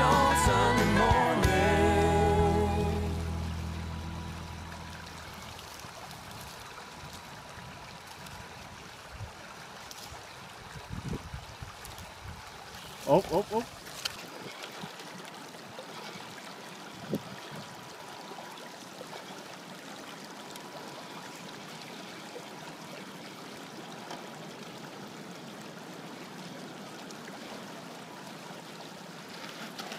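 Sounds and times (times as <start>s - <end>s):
creek water running over rocks: 0.0s - 29.9s.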